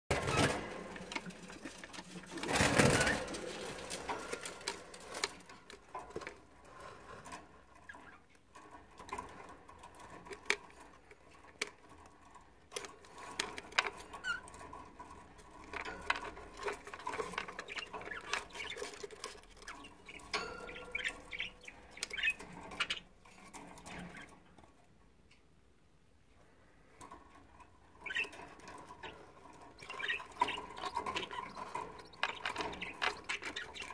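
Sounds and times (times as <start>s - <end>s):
nestlings scrabbling and scratching: 0.1s - 24.8s, 26.9s - 33.9s.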